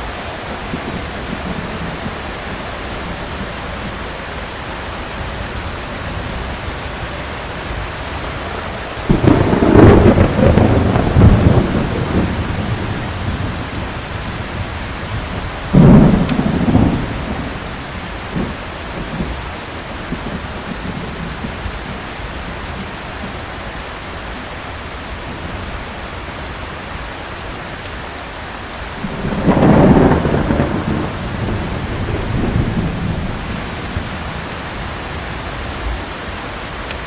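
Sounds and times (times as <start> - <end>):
thunder claps: 0.0 - 4.2, 5.1 - 23.4, 28.8 - 36.1
heavy rain falling: 0.0 - 37.0.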